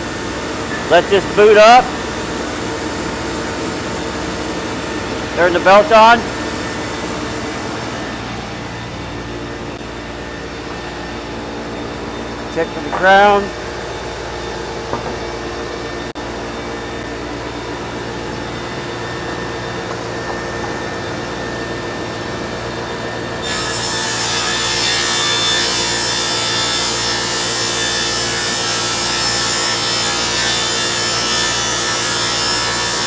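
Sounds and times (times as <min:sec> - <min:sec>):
rip saw machine hum: 0:00.0 - 0:33.0.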